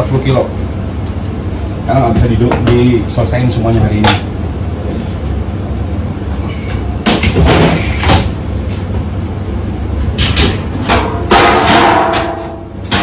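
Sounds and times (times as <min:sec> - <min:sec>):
kitchen ventilation rumble: 0:00.0 - 0:13.0.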